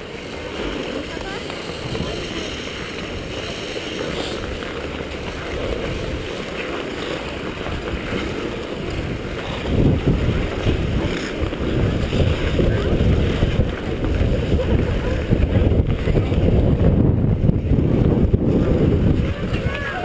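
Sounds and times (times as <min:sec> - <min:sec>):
ice skate blades scraping: 0:00.0 - 0:16.9, 0:17.6 - 0:20.0
wind buffeting microphone: 0:00.0 - 0:20.0.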